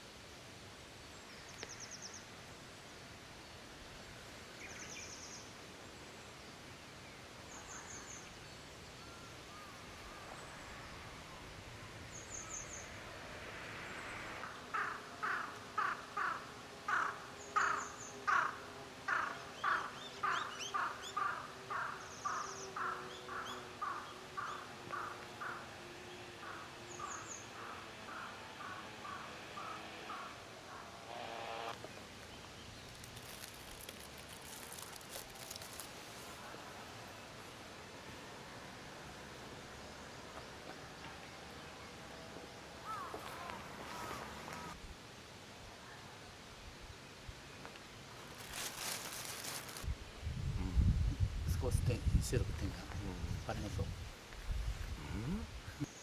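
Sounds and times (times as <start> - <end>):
forest background: 0.0 - 56.0.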